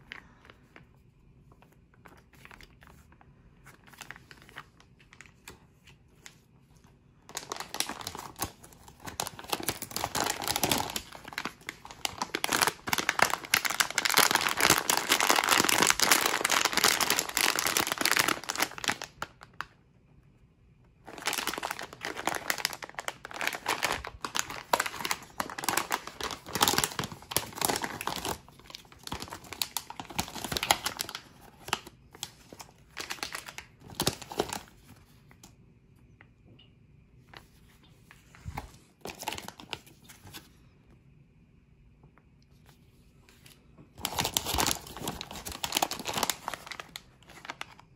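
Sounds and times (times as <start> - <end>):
plastic packaging crinkling: 0.0 - 19.7, 21.0 - 35.4, 37.3 - 40.5, 43.3 - 47.9.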